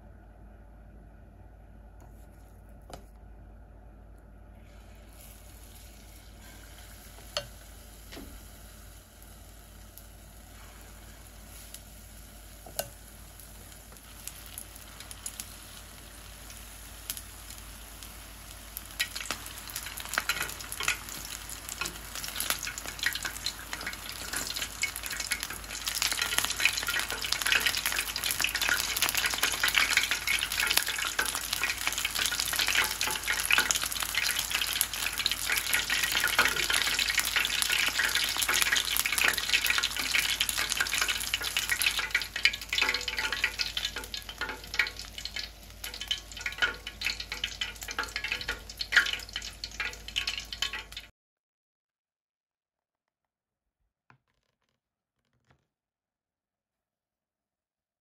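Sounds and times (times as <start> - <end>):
shrimp deep-frying in hot oil: 4.6 - 51.1.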